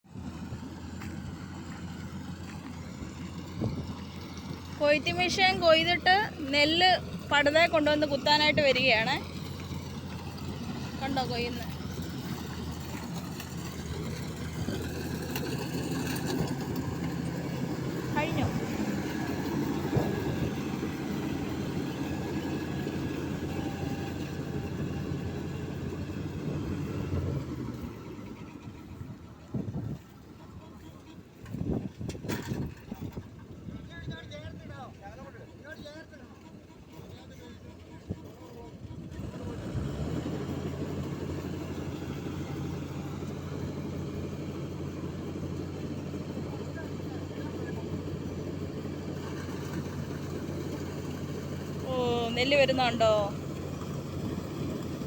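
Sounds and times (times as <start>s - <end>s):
diesel engine deep rumble: 0.0s - 55.0s.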